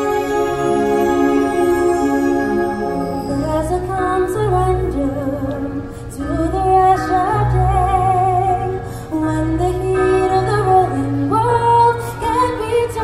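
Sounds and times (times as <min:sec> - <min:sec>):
musical accompaniment: 0:00.0 - 0:13.0
woman singing: 0:00.0 - 0:13.0.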